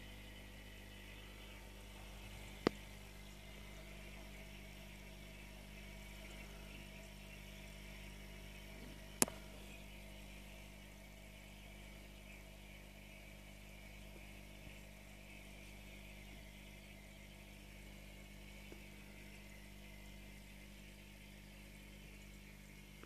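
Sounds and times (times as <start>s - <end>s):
aquarium equipment humming: 0.0s - 23.0s.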